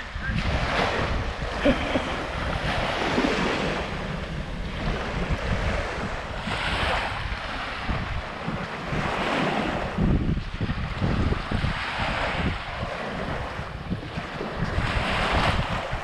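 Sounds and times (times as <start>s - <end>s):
waves washing on beach: 0.0s - 16.0s
wind buffeting microphone: 0.0s - 16.0s.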